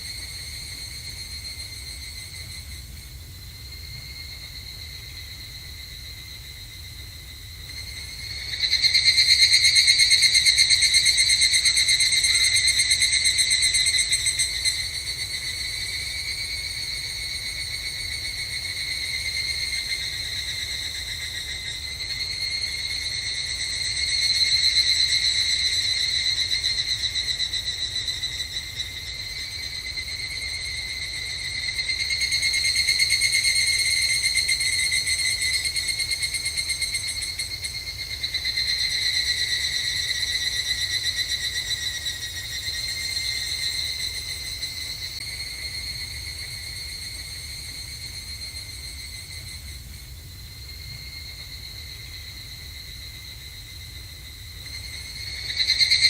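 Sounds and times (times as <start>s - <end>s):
cicadas trilling: 0.0s - 56.0s.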